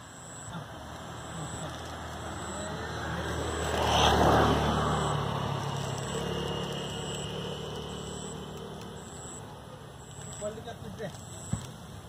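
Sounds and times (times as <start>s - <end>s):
vehicle passing by: 0.5s - 10.6s.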